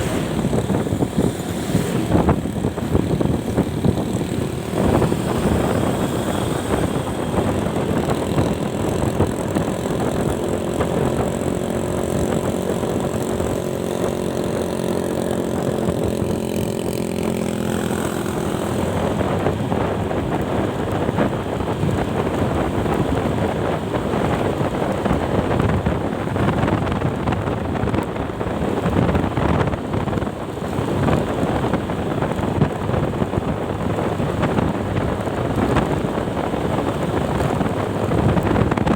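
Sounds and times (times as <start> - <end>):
road noise: 0.0 - 38.9
vehicle engine running: 0.0 - 38.9
wind rushing over microphone: 0.0 - 38.9.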